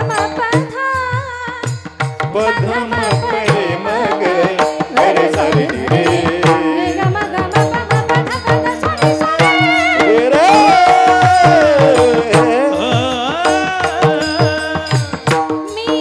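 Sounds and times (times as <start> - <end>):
drums keeping steady beat: 0.0 - 16.0.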